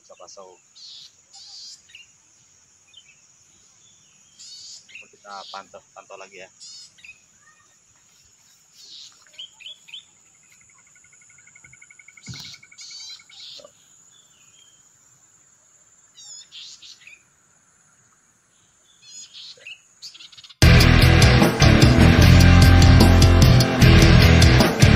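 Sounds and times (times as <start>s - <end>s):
birds chirping: 0.0s - 15.0s, 16.1s - 17.4s, 18.5s - 24.9s.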